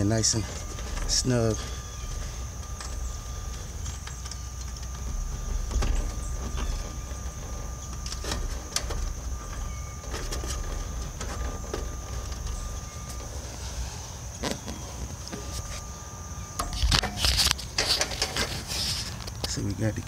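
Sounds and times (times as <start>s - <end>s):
faint high steady tone: 0.0s - 20.0s
low steady rumble: 0.0s - 20.0s.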